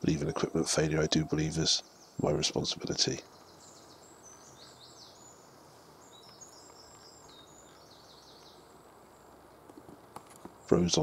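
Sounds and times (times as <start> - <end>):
faint birdsong chirps: 0.0 - 11.0
steady low hiss: 0.0 - 11.0.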